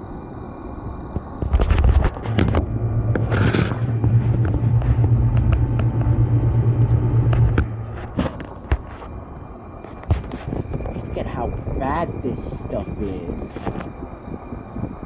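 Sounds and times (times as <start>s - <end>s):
air conditioner compressor hum: 0.7s - 15.0s.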